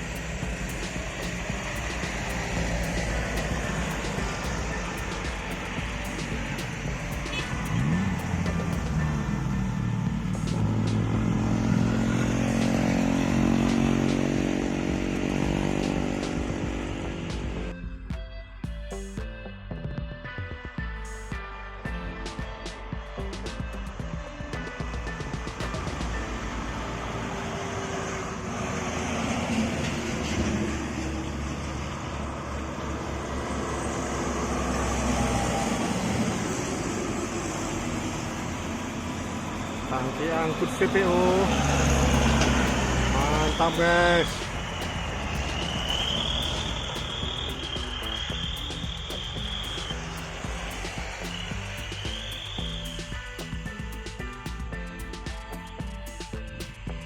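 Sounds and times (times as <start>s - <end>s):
diesel truck engine labouring: 0.0s - 57.0s
tyre and road noise: 0.0s - 57.0s.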